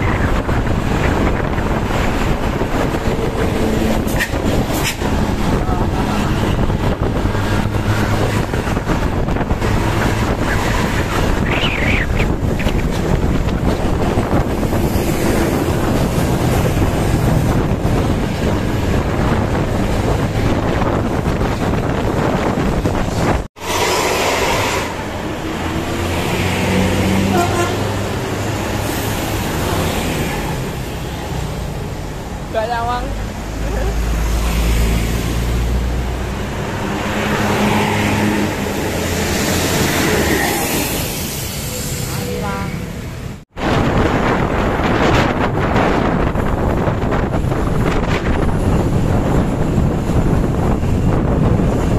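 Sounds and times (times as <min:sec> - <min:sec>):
wind buffeting microphone: 0:00.0 - 0:41.9, 0:43.2 - 0:51.9
vehicle engine hum: 0:00.0 - 0:43.5
road traffic rumble: 0:00.0 - 0:51.9.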